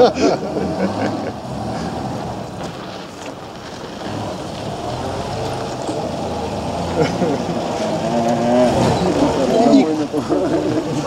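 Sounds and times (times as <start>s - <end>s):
car engine driving on gravel: 0.0s - 11.0s.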